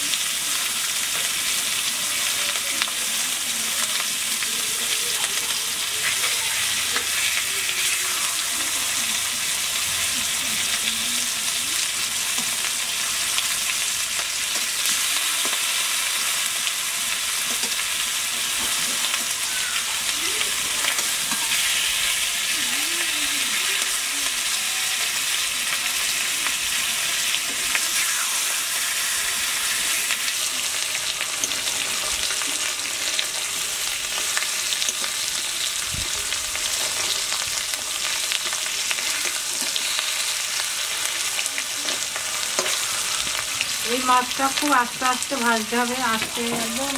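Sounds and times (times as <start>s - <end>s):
fish sizzling in hot oil: 0.0s - 46.9s.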